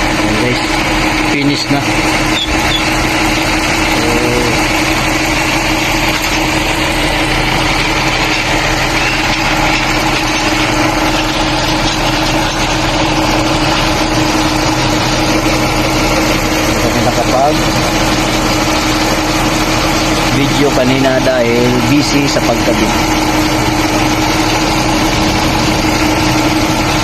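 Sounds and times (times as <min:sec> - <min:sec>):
car engine idling: 0:00.0 - 0:27.0
constant whine: 0:00.0 - 0:27.0.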